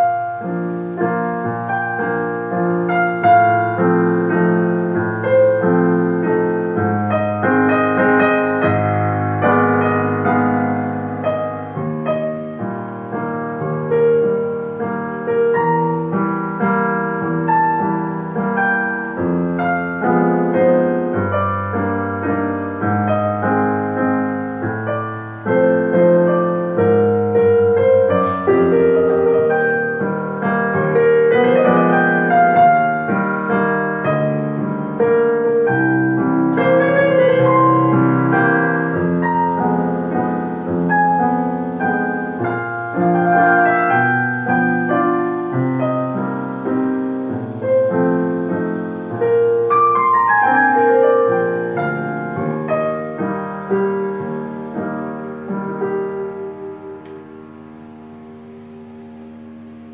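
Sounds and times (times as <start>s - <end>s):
digital piano playing melody over chords: 0.0s - 59.9s.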